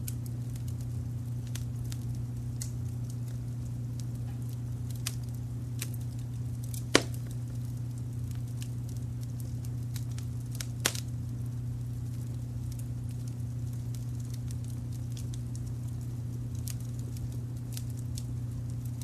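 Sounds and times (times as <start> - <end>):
fire crackling: 0.0 - 19.0
low brown noise rumble: 0.0 - 19.0
sharp fire pops: 0.0 - 19.0.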